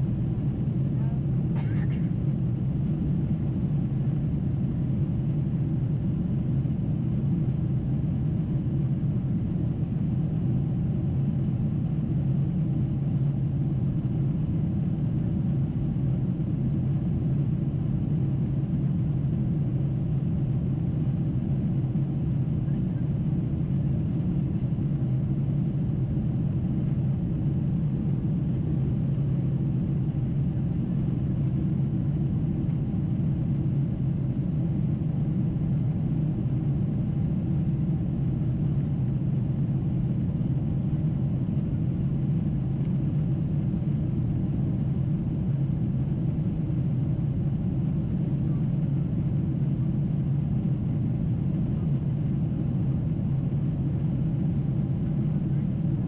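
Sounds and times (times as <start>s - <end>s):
airplane cabin drone: 0.0s - 56.0s.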